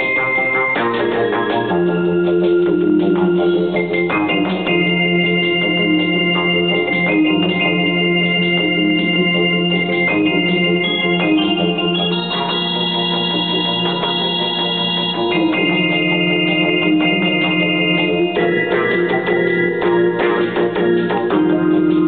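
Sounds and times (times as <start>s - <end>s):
keyboard playing sustained chords: 0.0s - 22.0s.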